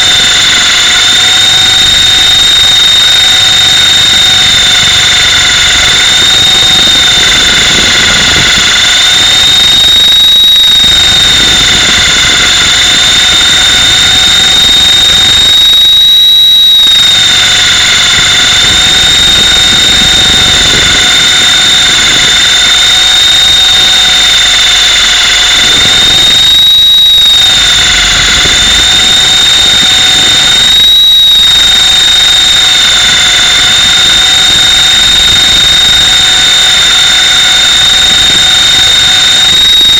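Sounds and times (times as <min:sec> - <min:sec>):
high-pitched electric motor whine: 0:00.0 - 0:39.9
rotor rushing: 0:00.0 - 0:39.9.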